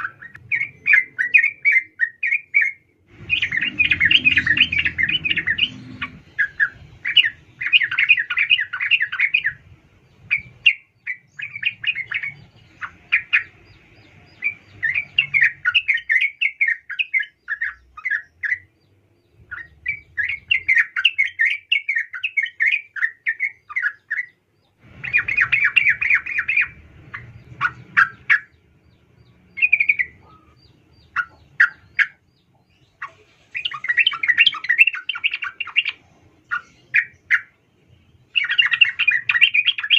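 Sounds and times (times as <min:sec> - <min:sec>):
bulbul chattering calls: 0:00.0 - 0:09.6, 0:10.2 - 0:18.8, 0:19.4 - 0:37.6, 0:38.3 - 0:39.9.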